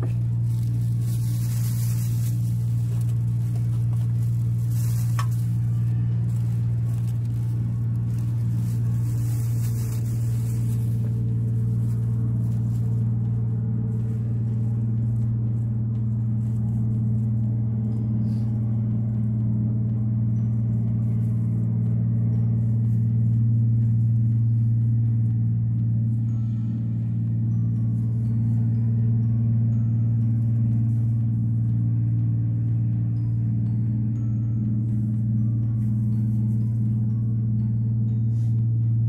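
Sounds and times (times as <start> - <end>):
motorboat engine drone: 0.0 - 39.0.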